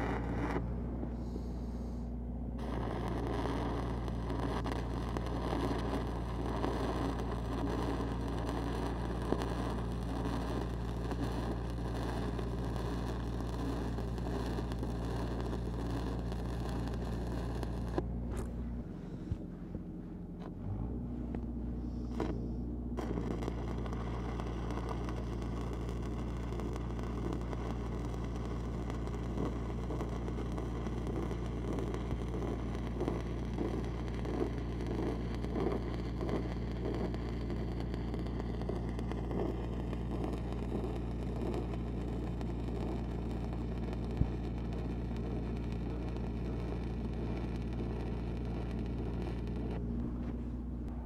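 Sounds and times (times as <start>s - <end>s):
welding arc crackling: 0.0s - 0.8s, 2.6s - 18.6s, 22.0s - 51.0s
welding arc pop: 0.0s - 1.2s, 2.6s - 18.7s, 23.0s - 51.0s
welding machine engine drone: 0.0s - 51.0s.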